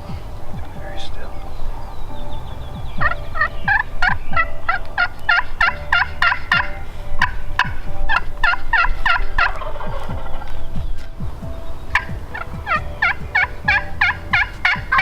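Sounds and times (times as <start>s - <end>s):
turkey calling: 0.0s - 15.0s.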